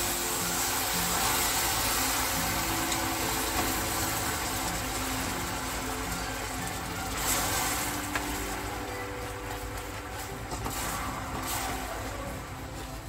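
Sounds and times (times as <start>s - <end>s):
caramel sizzling and boiling: 0.0s - 13.0s
steam hissing: 0.0s - 13.0s.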